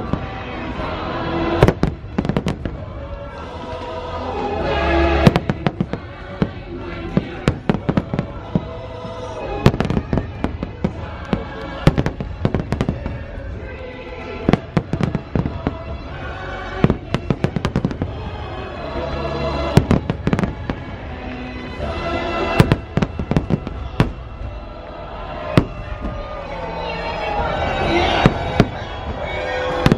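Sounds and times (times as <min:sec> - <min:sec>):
fireworks bursting: 0:00.0 - 0:29.9
music soundtrack: 0:00.0 - 0:29.9.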